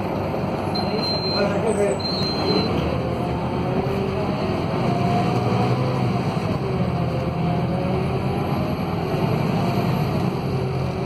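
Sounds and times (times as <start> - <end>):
bus diesel engine accelerating: 0.0 - 11.0.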